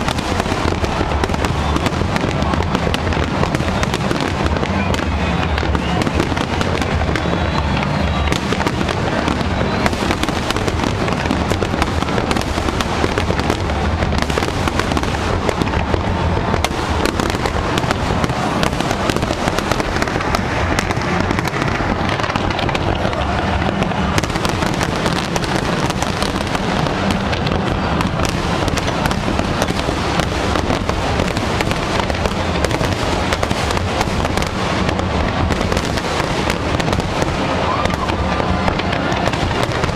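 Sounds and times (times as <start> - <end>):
fireworks bursts and crackles: 0.0 - 39.9.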